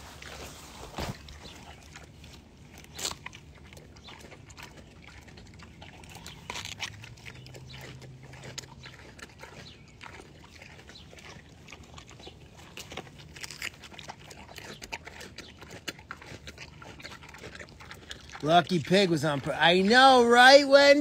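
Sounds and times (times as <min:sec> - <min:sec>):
pig crunching watermelon: 0:00.0 - 0:21.0.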